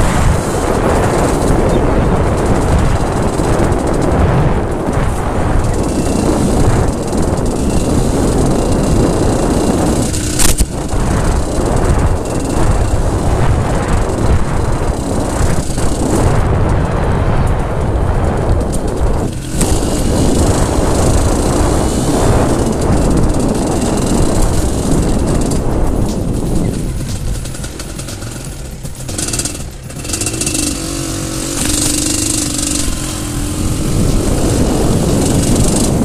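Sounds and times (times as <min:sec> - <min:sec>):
motorcycle engine off road: 0:00.0 - 0:36.0.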